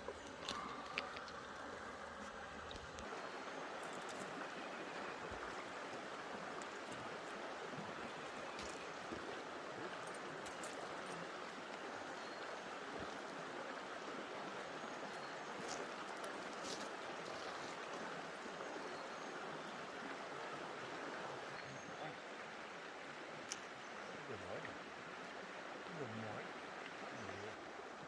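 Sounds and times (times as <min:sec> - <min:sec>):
creek flowing water: 0:00.0 - 0:28.0.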